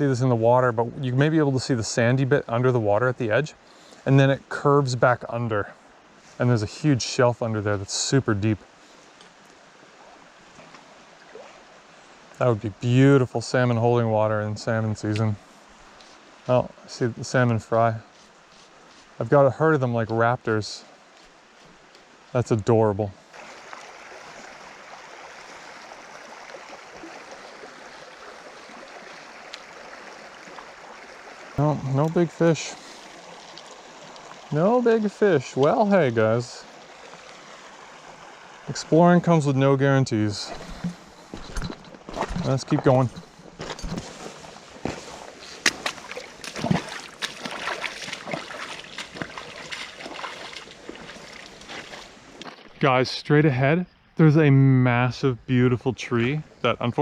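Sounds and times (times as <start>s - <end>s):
creek water rushing: 0.0s - 53.4s.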